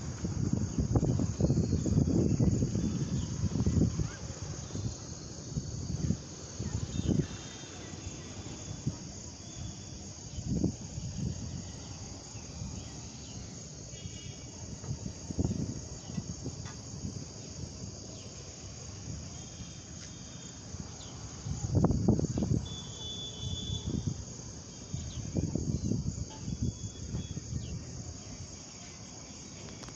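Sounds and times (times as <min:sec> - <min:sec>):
wind buffeting microphone: 0:00.0 - 0:13.8, 0:14.6 - 0:19.4, 0:20.7 - 0:22.9, 0:23.5 - 0:28.8
insects chirping chorus: 0:00.0 - 0:29.9.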